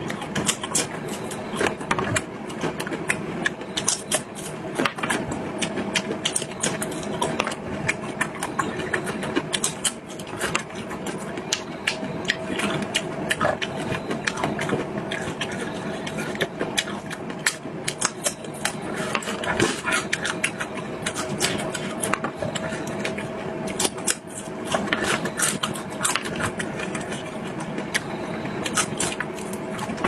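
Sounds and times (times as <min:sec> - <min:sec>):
faint steady hum: 0:00.0 - 0:30.0
wet chewing clicks and smacks: 0:00.0 - 0:30.0.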